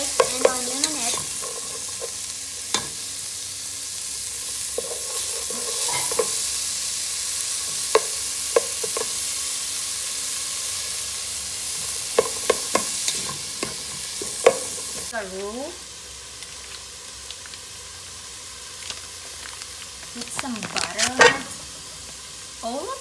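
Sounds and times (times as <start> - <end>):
vegetables sizzling in a pot: 0.0 - 23.0.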